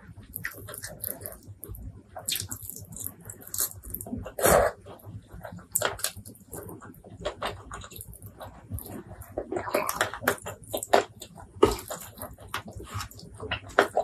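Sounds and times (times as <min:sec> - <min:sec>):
wet chewing and lip smacks: 0:00.3 - 0:04.6, 0:05.4 - 0:14.0.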